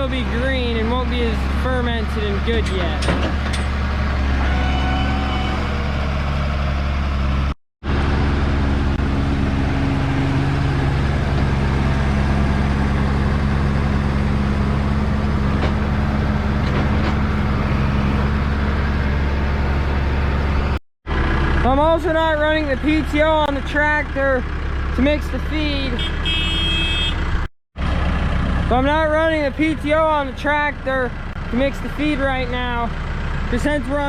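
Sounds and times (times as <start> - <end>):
diesel tractor engine running: 0.0 - 34.0.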